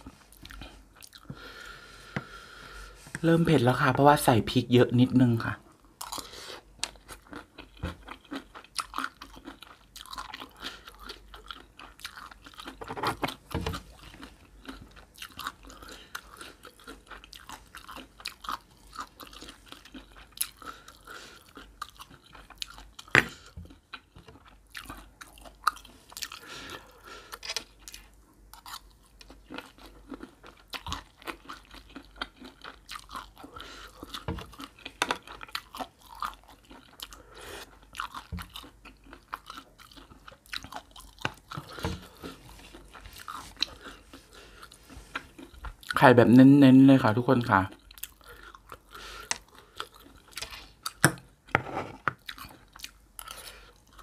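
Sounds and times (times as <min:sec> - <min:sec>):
close chewing and crunching: 0:00.0 - 0:02.5, 0:03.2 - 0:54.0.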